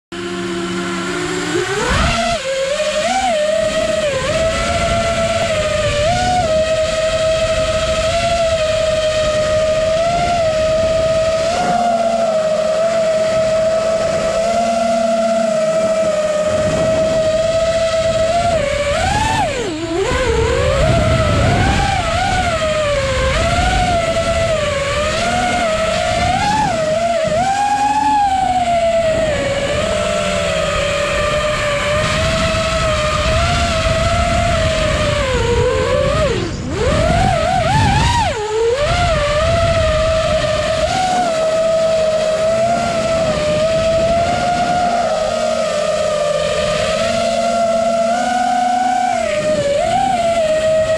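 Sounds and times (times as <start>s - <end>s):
drone motors whining: 0.1s - 50.9s
wind rumble on microphone: 0.2s - 50.9s.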